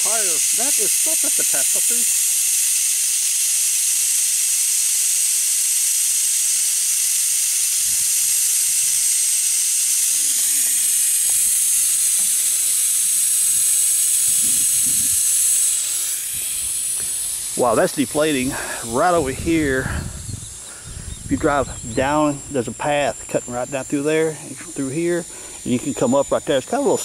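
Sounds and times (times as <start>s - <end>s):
air hissing out of tire valve: 0.0s - 26.0s.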